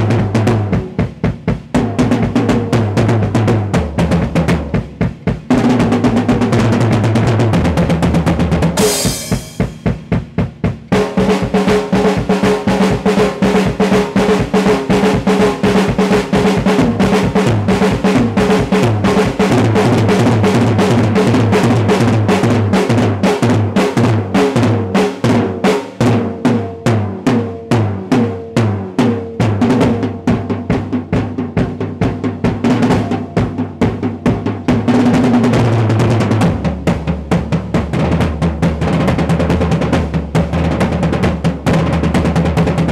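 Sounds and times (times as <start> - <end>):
drum kit solo: 0.0 - 42.9.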